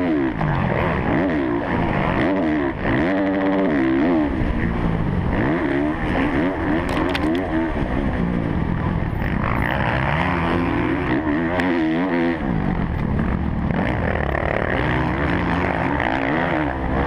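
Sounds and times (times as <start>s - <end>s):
motocross engine revving: 0.0s - 17.0s.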